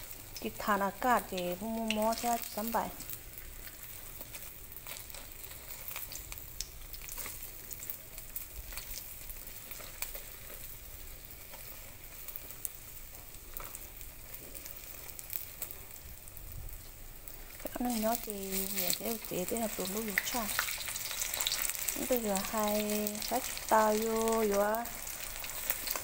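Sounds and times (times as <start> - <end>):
hot oil sizzling: 0.0 - 26.0
oil crackling and popping: 0.0 - 26.0.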